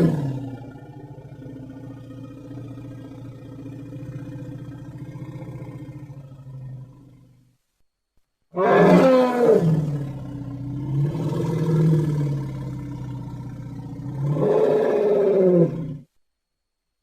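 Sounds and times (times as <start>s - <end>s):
elephant roaring call: 0.0s - 7.4s, 8.5s - 16.1s.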